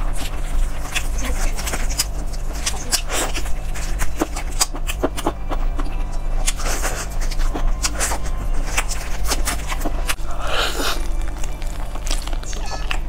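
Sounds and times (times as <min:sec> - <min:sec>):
chewing and lip smacking: 0:00.0 - 0:13.0
steady low hum: 0:00.0 - 0:13.0.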